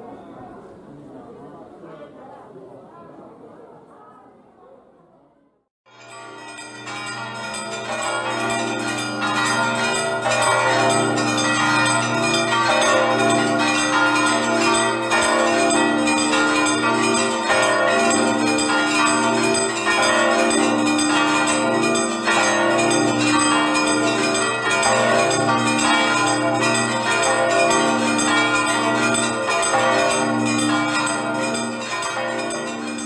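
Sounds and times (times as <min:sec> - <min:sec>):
church bells ringing: 0:05.9 - 0:33.0.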